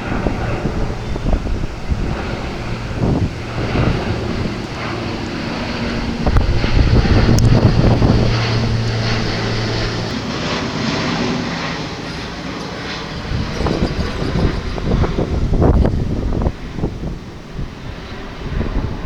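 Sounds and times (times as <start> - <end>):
propeller aircraft drone: 0.0 - 19.0
wind buffeting microphone: 0.0 - 19.0.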